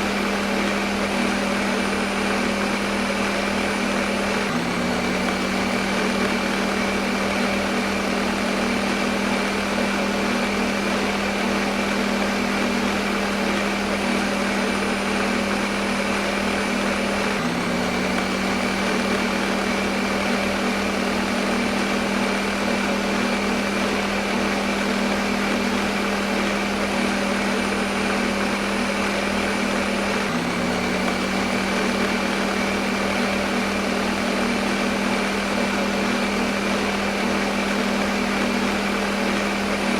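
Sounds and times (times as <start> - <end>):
blender motor humming: 0.0 - 39.9.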